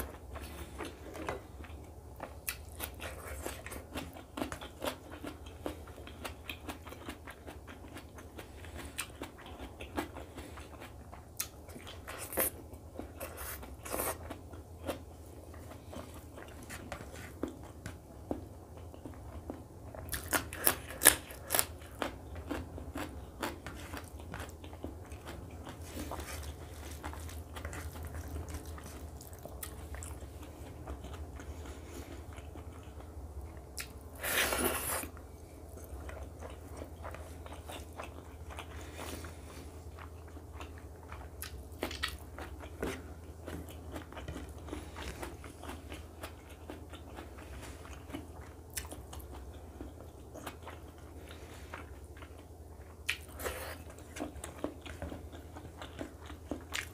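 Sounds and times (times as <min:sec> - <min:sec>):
low steady hum: 0:00.0 - 0:56.9
wet chewing: 0:00.0 - 0:56.9.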